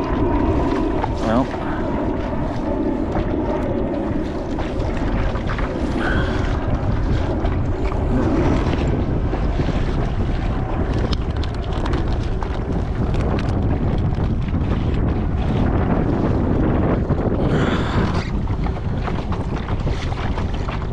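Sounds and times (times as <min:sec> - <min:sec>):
water lapping against hull: 0:00.0 - 0:20.9
wind buffeting microphone: 0:00.0 - 0:20.9.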